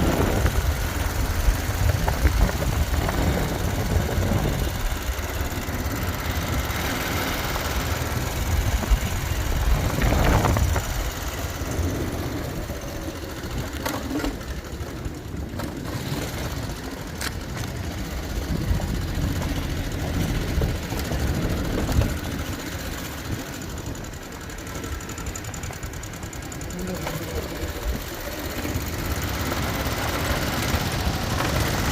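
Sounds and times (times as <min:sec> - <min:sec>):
motorcycle engine rumbling: 0:00.0 - 0:31.9.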